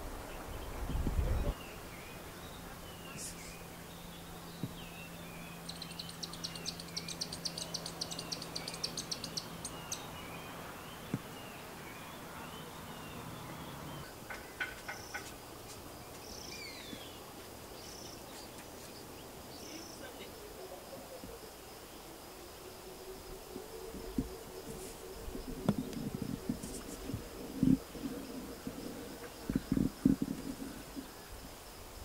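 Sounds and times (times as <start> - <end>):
birds chirping: 0.2 - 31.4.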